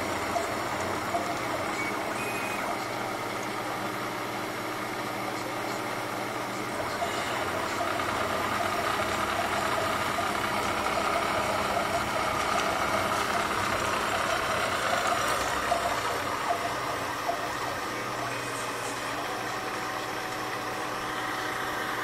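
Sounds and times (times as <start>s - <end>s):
milling machine cutting metal: 0.0s - 22.0s.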